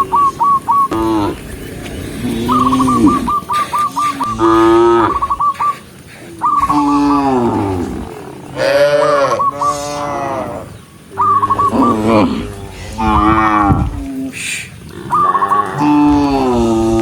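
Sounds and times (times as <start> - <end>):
cows mooing: 0.0 - 17.0.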